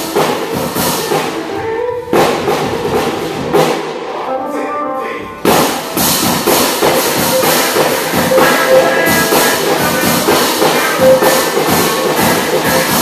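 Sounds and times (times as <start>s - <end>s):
music with driving drum beat: 0.0s - 3.9s, 5.4s - 13.0s.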